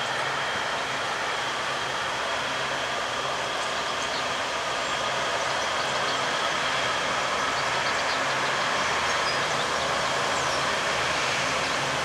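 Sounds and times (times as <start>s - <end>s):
locomotive engine drone: 0.0s - 12.0s.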